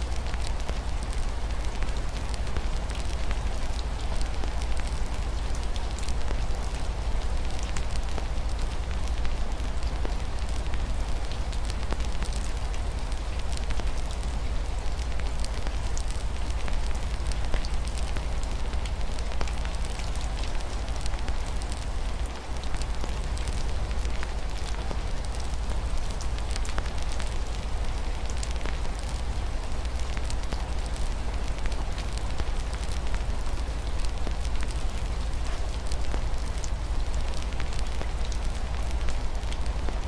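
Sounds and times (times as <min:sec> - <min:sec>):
rain hiss: 0:00.0 - 0:40.0.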